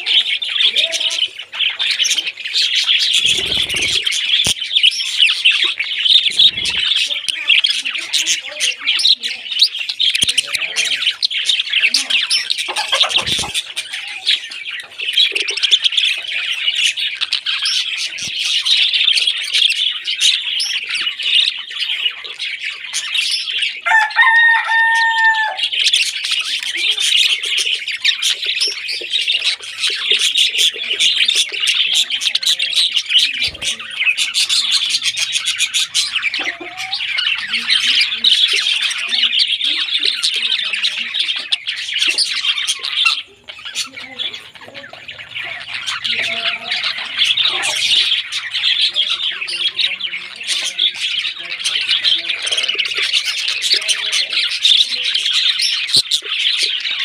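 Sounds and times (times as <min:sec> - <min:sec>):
budgerigars chattering and warbling: 0:00.0 - 0:57.0.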